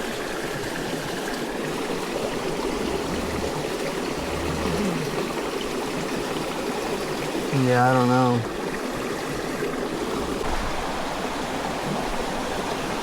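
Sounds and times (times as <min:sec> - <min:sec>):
forest stream running: 0:00.0 - 0:13.0.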